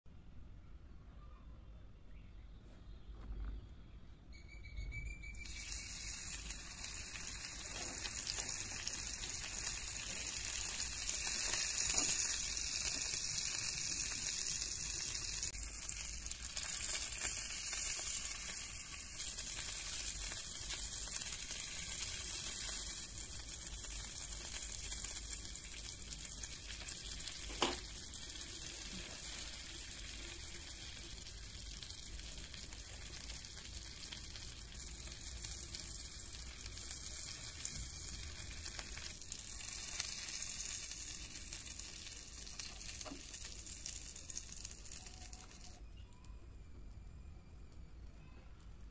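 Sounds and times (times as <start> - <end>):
meat sizzling in frying pan: 5.4 - 45.8.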